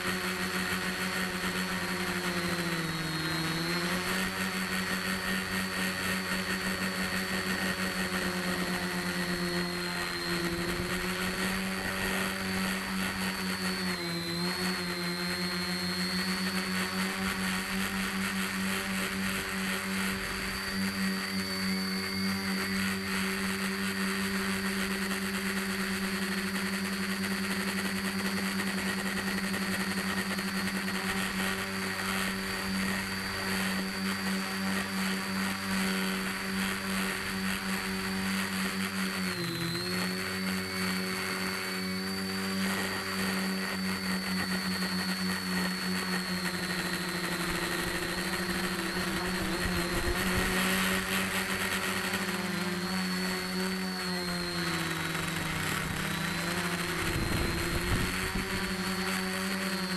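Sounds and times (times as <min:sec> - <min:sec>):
quadcopter propellers buzzing: 0:00.0 - 0:59.9.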